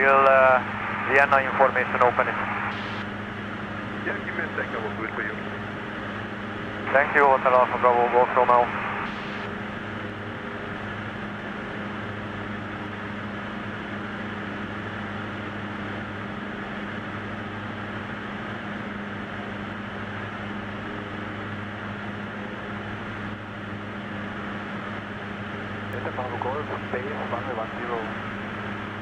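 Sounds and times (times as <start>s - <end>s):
light aircraft engine droning: 0.0s - 29.0s.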